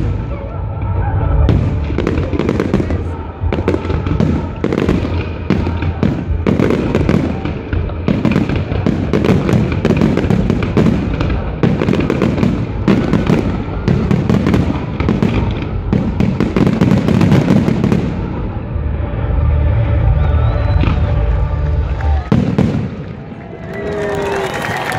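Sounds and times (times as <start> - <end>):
fireworks bursting: 0.0 - 18.6, 20.6 - 23.5.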